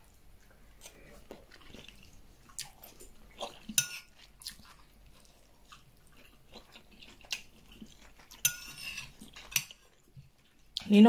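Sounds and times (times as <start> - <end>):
person chewing food: 0.0 - 10.9.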